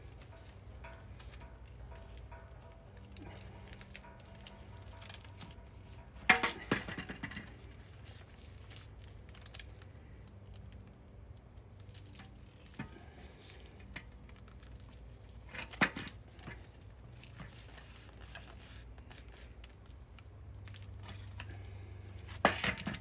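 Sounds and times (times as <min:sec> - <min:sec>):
foil tape crinkling: 0:00.0 - 0:23.0.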